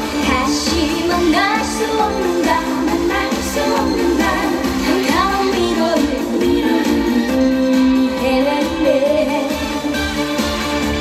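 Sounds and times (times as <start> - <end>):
backing track with steady beat: 0.0 - 11.0
girl singing into microphone: 0.2 - 9.6.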